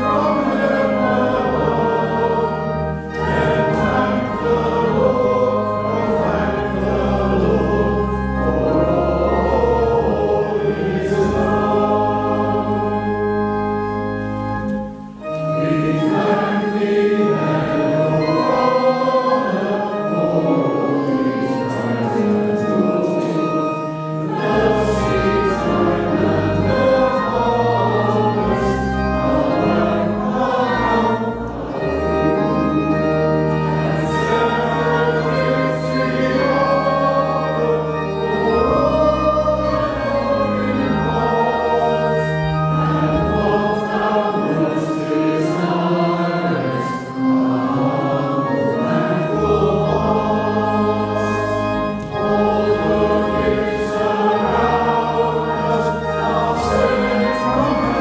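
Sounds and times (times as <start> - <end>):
congregation singing a hymn: 0.0 - 58.0
pipe organ: 0.0 - 58.0.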